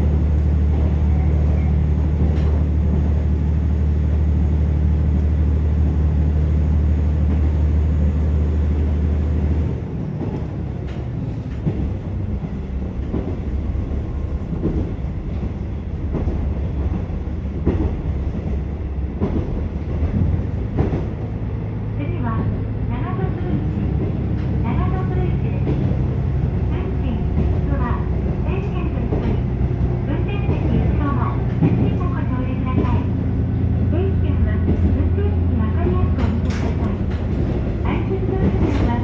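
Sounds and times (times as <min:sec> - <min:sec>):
train wheel rumble: 0:00.0 - 0:39.0.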